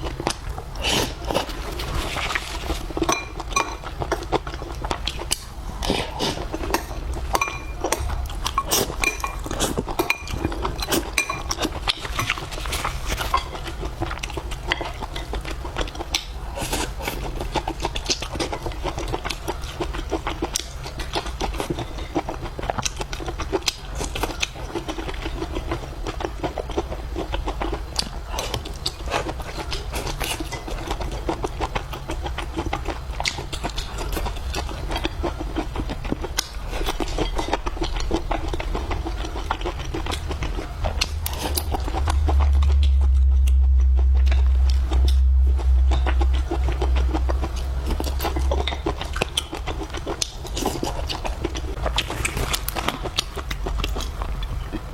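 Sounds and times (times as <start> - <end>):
person chewing food: 0.0 - 54.9
steady low hum: 0.0 - 54.9.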